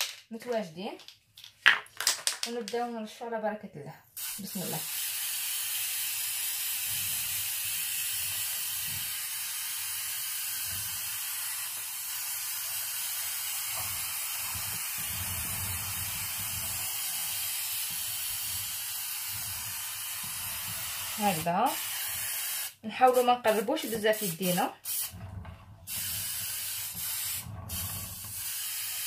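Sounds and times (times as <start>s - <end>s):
aerosol can spray hissing: 4.2s - 25.3s, 25.9s - 29.0s.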